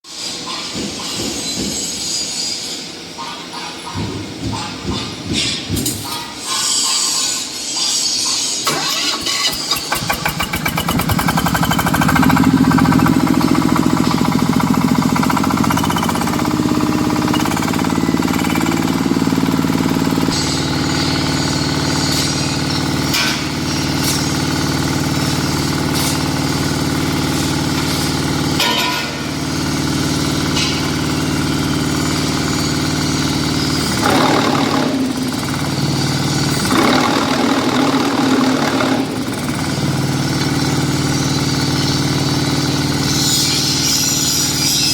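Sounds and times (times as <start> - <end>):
diesel engine of block machine: 8.0 - 44.9.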